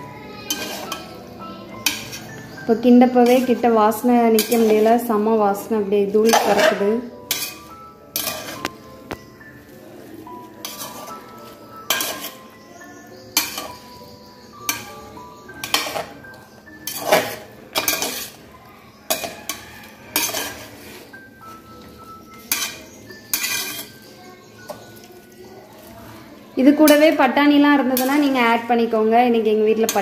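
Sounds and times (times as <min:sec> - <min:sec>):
spatula scraping a pot: 0:00.0 - 0:09.0, 0:10.3 - 0:27.1.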